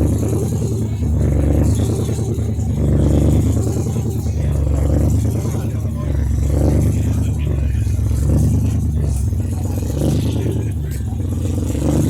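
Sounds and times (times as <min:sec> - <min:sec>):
rally car engine running: 0:00.0 - 0:12.0.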